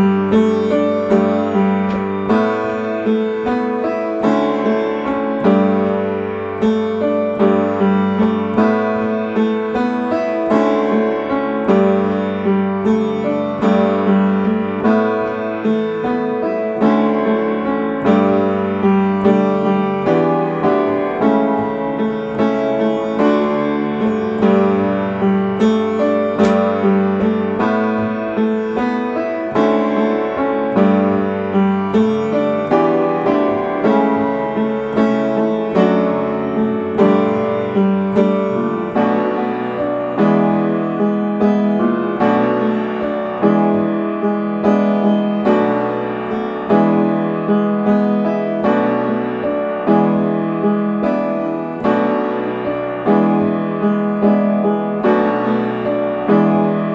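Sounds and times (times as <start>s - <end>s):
upright piano chords: 0.0s - 56.9s.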